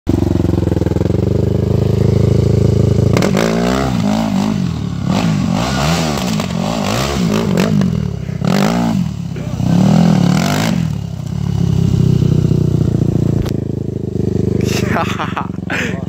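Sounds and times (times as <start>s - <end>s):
dirt bike engine revving: 0.1s - 16.0s.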